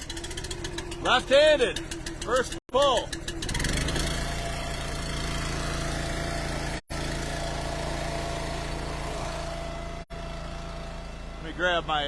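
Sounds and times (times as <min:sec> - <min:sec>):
small gas engine running: 0:00.0 - 0:12.0.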